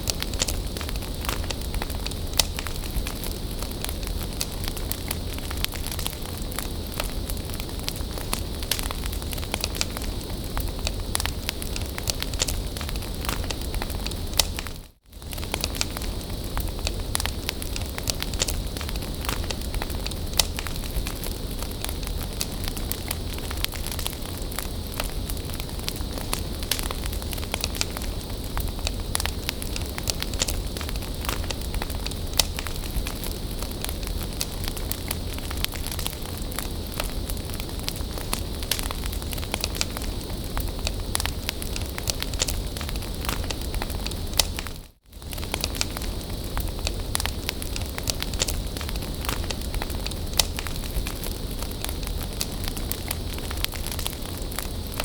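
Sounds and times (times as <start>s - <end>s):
bonfire rumble and hiss: 0.0s - 55.0s
wood crackling and popping: 0.0s - 55.0s.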